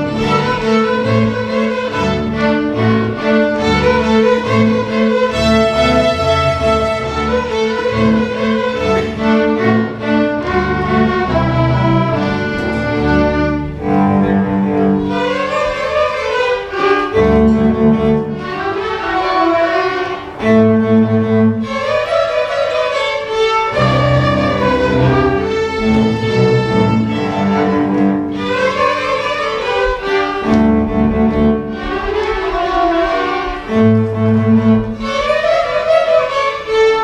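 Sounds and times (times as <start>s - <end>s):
string orchestra playing: 0.0s - 37.0s.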